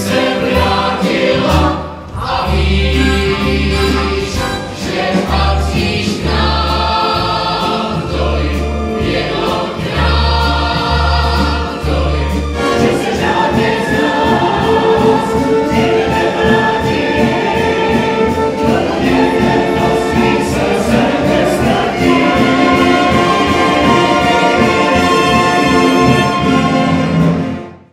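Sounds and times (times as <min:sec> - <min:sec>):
chorus singing: 0:00.0 - 0:27.9
orchestra with brass playing: 0:02.7 - 0:05.6, 0:08.2 - 0:27.9.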